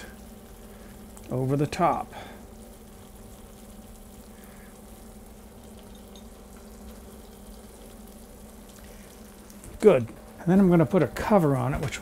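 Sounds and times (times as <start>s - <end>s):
cheese sizzling in a skillet: 0.0s - 12.0s
low steady hum: 0.0s - 12.0s.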